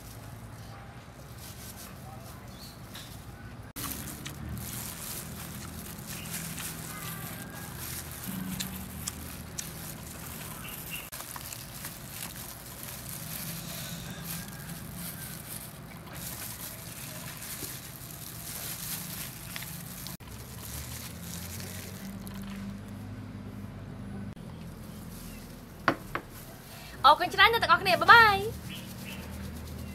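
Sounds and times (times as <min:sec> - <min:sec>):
lettuce leaves rustling: 0:00.0 - 0:23.0, 0:24.5 - 0:29.9
plastic glove crinkling: 0:03.8 - 0:22.9, 0:24.8 - 0:29.9.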